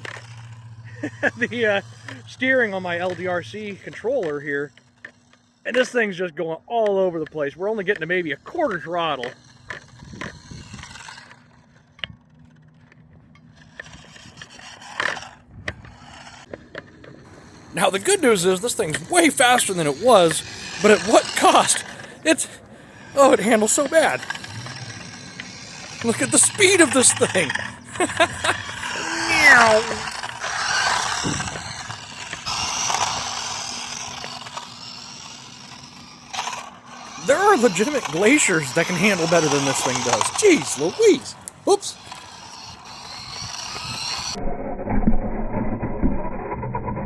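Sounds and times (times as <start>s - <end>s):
toy car tyres scraping ground: 0.0s - 6.2s, 7.0s - 45.0s
faint electric motor hum: 0.0s - 44.4s.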